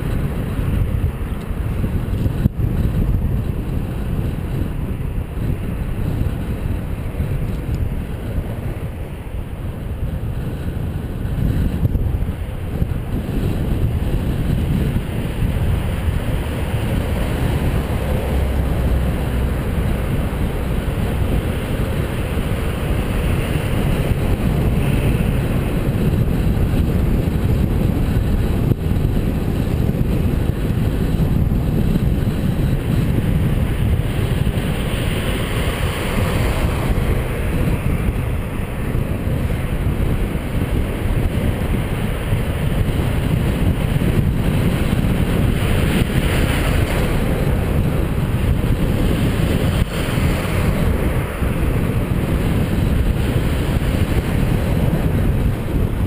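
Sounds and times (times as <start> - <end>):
cars driving in traffic: 0.0 - 56.0
wind buffeting microphone: 0.0 - 56.0.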